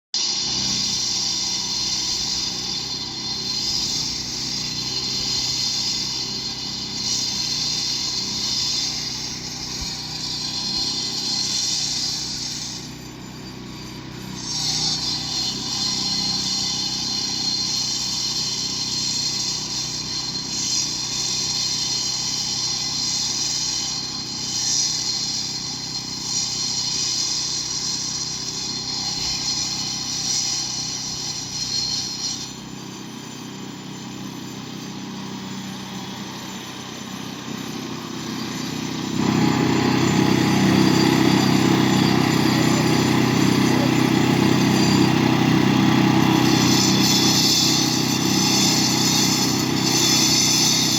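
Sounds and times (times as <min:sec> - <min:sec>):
concrete saw engine running: 0:00.2 - 0:50.9
saw blade hissing: 0:00.2 - 0:50.9.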